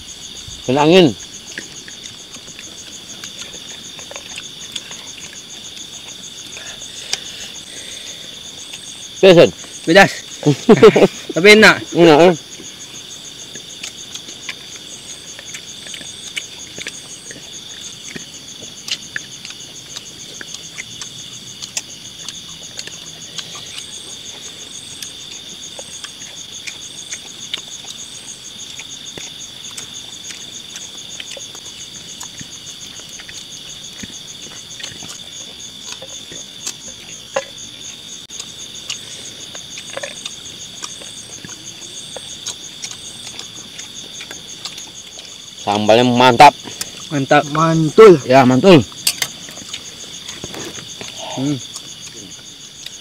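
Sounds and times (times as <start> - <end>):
crickets and insects trilling: 0.0 - 53.0.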